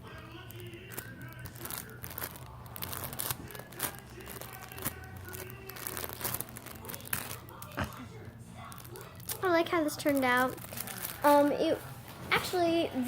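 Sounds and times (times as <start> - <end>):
foam toy crinkling and clicking: 0.0 - 12.7.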